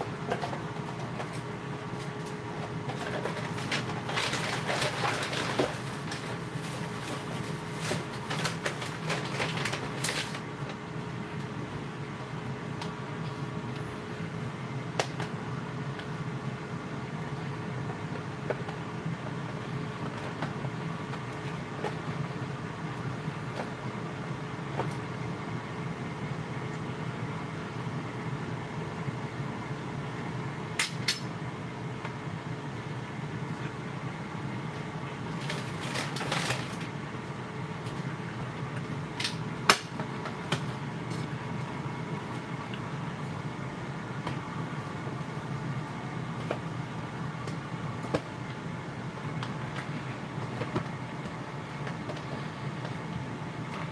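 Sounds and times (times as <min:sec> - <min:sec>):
air fryer fan humming: 0:00.0 - 0:53.9.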